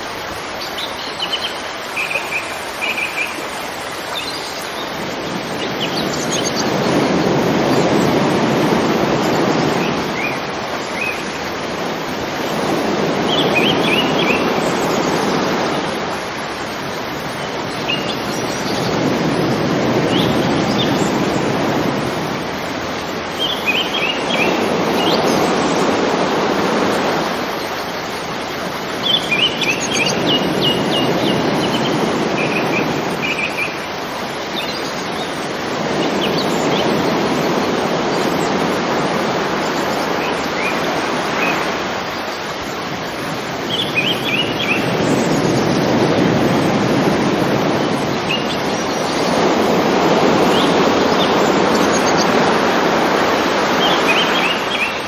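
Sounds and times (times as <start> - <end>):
birds chirping: 0.0 - 11.5, 13.0 - 15.8, 17.2 - 22.0, 22.6 - 25.9, 27.5 - 42.6, 43.2 - 46.3, 47.0 - 55.0
river water rushing: 0.0 - 55.0.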